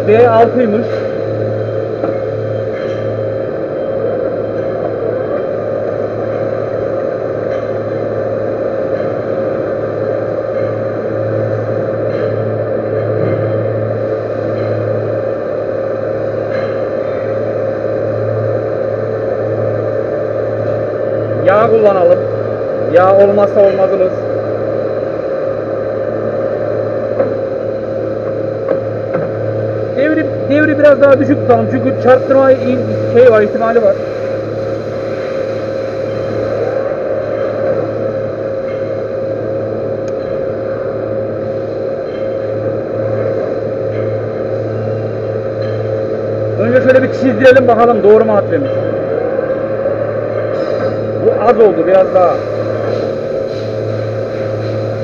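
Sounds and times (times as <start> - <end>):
high steady whine: 0.0 - 55.0.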